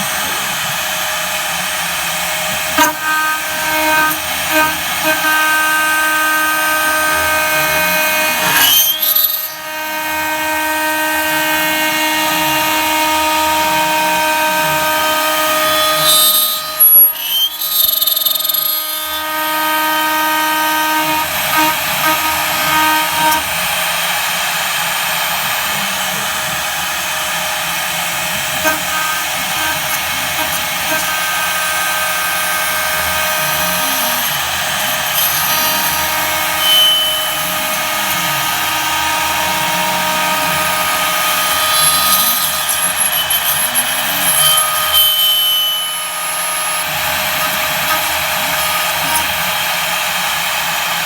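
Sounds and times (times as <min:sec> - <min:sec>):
milling spindle high-pitched whine: 0:00.0 - 0:51.0.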